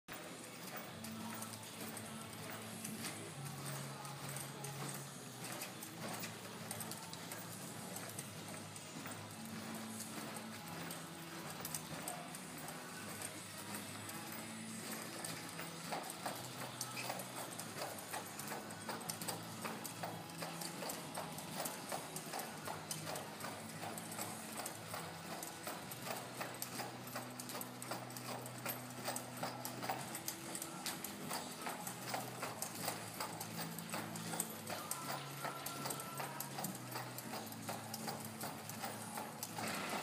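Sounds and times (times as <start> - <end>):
horse hoofbeats on dirt: 0.1 - 40.0.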